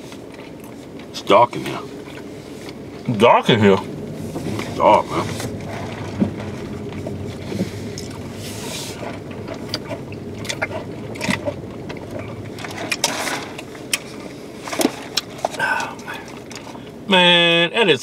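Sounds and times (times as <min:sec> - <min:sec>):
car cabin hum: 0:00.0 - 0:18.0.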